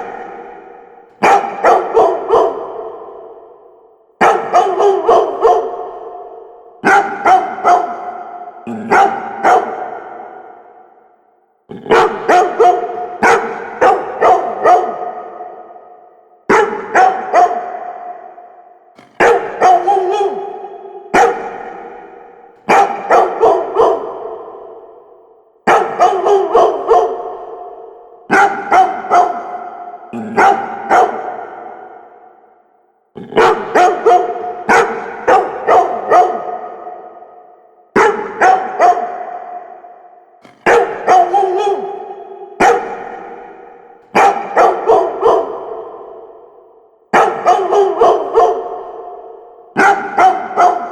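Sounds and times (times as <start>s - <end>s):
dog barking: 0.0s - 50.9s.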